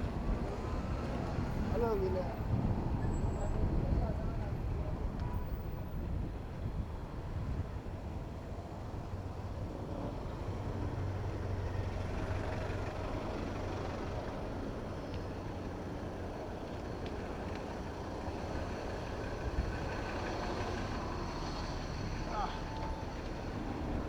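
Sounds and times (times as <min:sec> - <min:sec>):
vehicle engines humming: 0:00.0 - 0:06.8, 0:08.1 - 0:24.0
traffic noise: 0:00.0 - 0:24.0.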